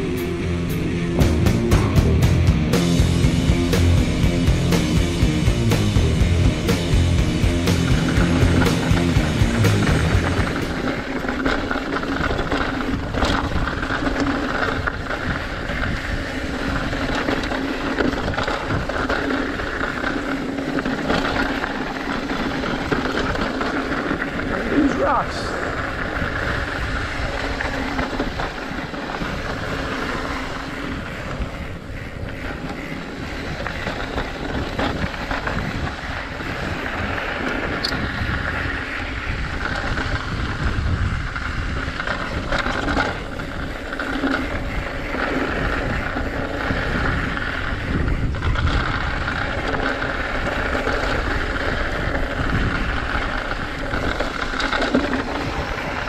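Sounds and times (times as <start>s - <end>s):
tyres rolling over dirt trail: 0.0s - 56.0s
bike clicks and rattles: 2.8s - 56.0s
wind rushing over microphone: 6.0s - 56.0s.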